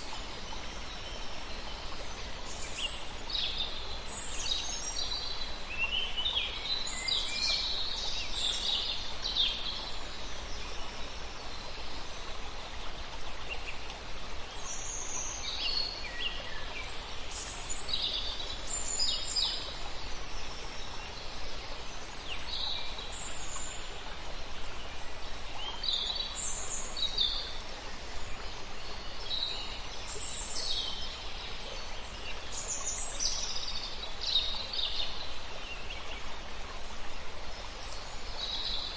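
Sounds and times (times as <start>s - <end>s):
songbirds chirping: 0.0s - 38.9s
steady background hiss: 0.0s - 38.9s.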